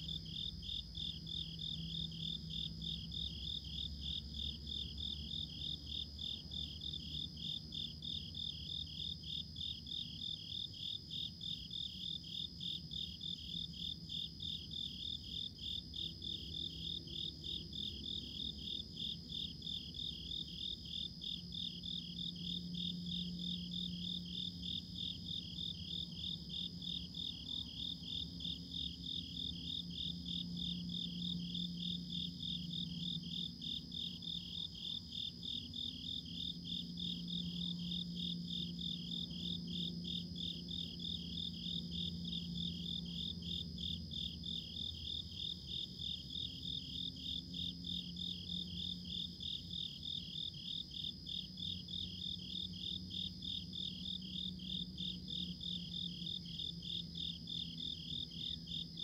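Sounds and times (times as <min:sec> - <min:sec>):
crickets chirping: 0:00.0 - 0:59.0
high-pitched insect trill: 0:00.0 - 0:59.0.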